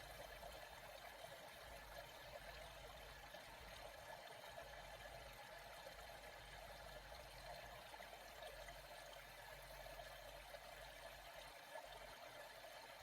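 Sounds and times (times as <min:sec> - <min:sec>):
flowing water: 0:00.0 - 0:13.0.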